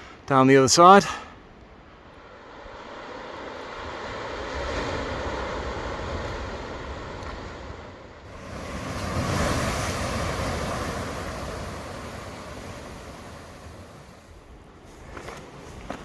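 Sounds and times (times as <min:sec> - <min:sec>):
wave breaking on rocky shore: 0:02.6 - 0:16.0.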